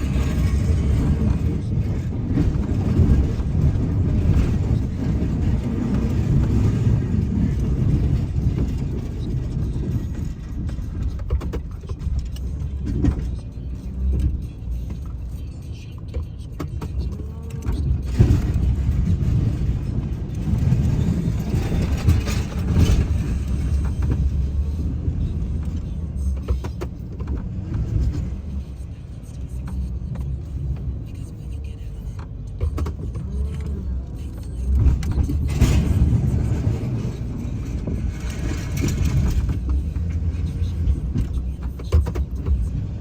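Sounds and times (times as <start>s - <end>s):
truck engine rumbling: 0.0s - 43.0s.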